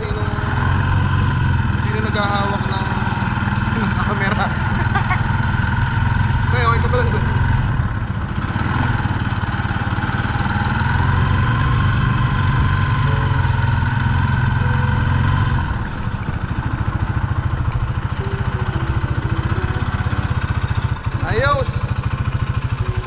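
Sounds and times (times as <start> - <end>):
small motorbike engine running: 0.0 - 23.0.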